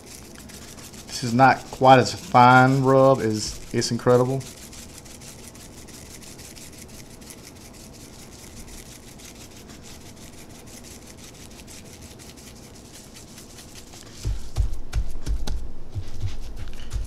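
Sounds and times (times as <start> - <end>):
scratchy rustle of seasoning rubbing: 0.0 - 14.5.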